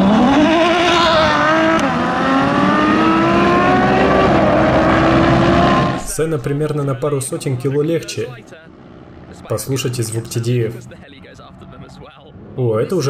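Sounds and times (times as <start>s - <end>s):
car engines accelerating hard: 0.0s - 13.0s.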